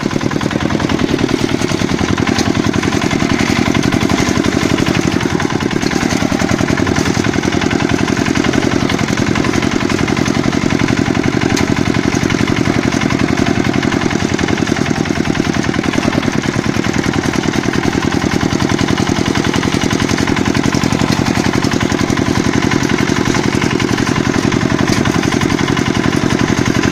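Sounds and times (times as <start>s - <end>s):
walk-behind tractor engine running: 0.0s - 26.9s.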